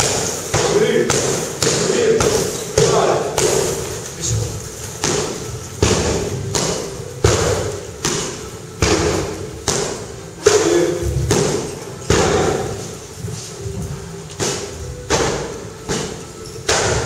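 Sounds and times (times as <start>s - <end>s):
thuds on heavy bags: 0.0s - 17.0s.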